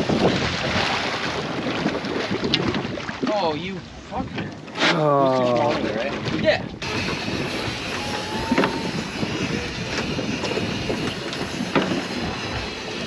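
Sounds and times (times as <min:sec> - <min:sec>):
boat engine rumble: 0:00.0 - 0:13.0
water noise: 0:00.0 - 0:13.0
wind: 0:00.0 - 0:13.0.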